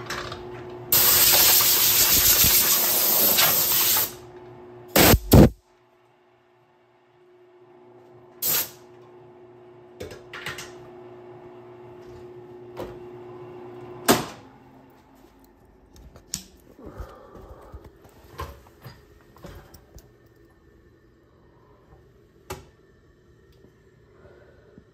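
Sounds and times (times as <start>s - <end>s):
faint motor hum: 4.1s - 24.9s.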